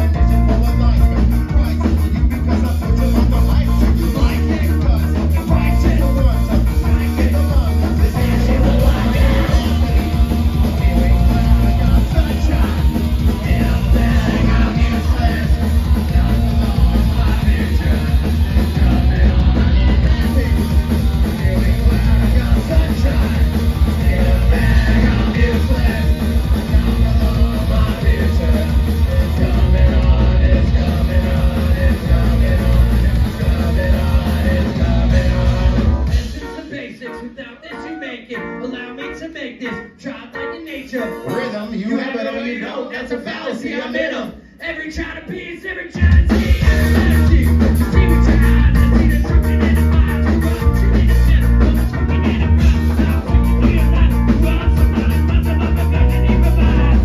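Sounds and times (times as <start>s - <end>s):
punk band playing live: 0.0s - 42.6s, 44.5s - 57.0s
person singing or yelling: 0.0s - 57.0s.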